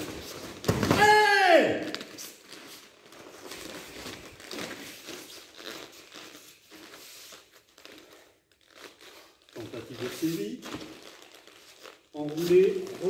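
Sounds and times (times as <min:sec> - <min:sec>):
bare feet shuffling on mats: 0:00.0 - 0:13.0
uniforms rustling: 0:00.0 - 0:13.0.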